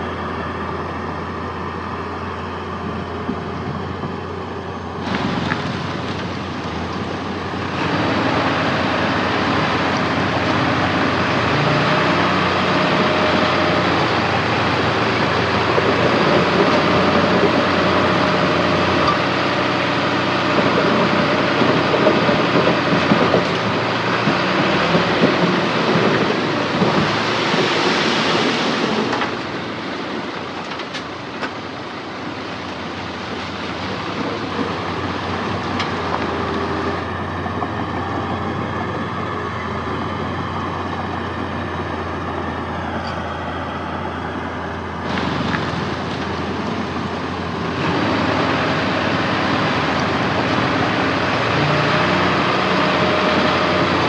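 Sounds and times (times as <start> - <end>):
heavy earthmoving machinery running: 0.0 - 54.0.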